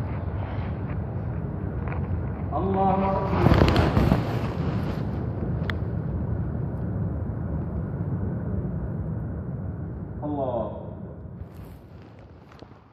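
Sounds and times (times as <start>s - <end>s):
low rumbling background noise: 0.0s - 12.9s.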